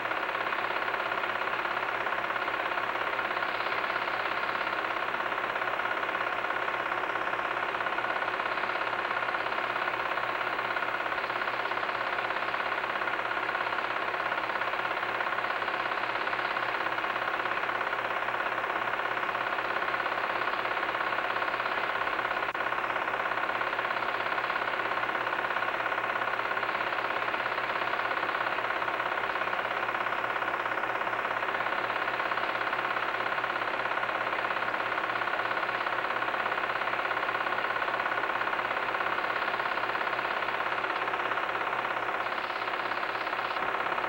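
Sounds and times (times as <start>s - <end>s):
film advance clatter: 0.0s - 44.0s
film projector whirring: 0.0s - 44.0s.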